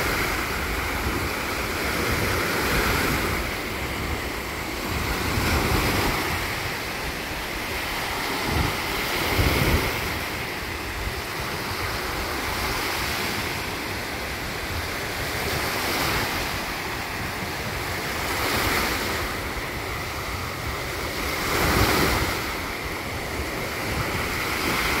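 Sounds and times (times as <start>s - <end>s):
waves washing onto shore: 0.0s - 25.0s
wind buffeting microphone: 0.0s - 25.0s.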